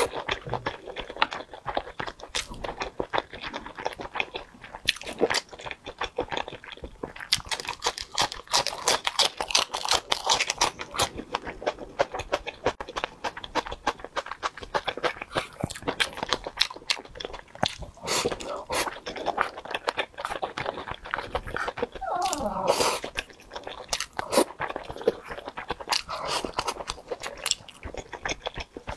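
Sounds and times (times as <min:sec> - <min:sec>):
mouth chewing clicks and smacks: 0:00.0 - 0:28.9.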